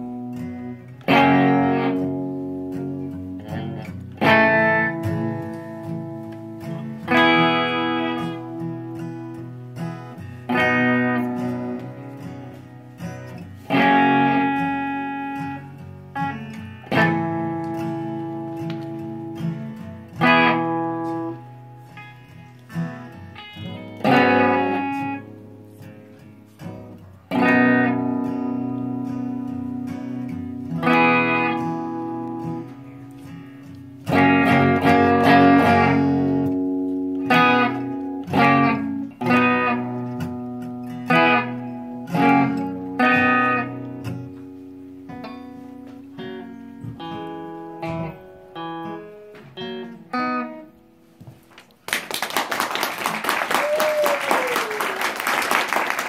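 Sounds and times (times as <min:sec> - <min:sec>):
acoustic and electric guitar chords: 0:00.0 - 0:56.0.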